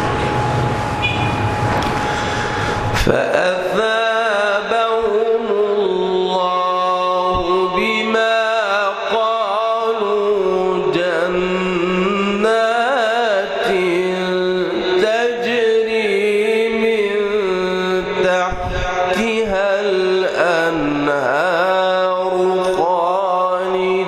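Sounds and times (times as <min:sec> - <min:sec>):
man chanting melodically: 0:03.0 - 0:24.0.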